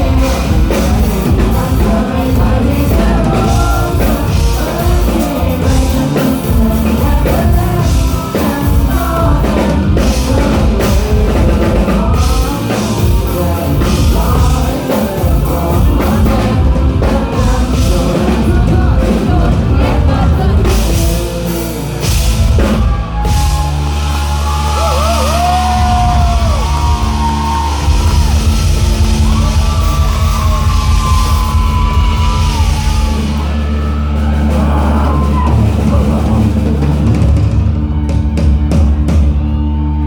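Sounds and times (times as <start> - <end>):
person singing: 0.0 - 37.7
live rock band playing: 0.0 - 40.0.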